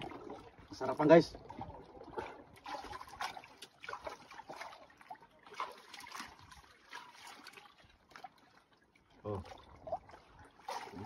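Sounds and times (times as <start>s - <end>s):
faint lapping water: 0.0s - 11.0s.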